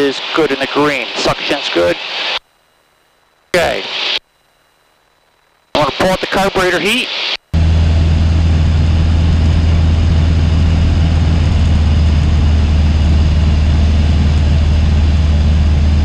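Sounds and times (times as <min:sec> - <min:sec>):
propeller plane engine drone: 0:00.0 - 0:04.8, 0:05.4 - 0:16.0.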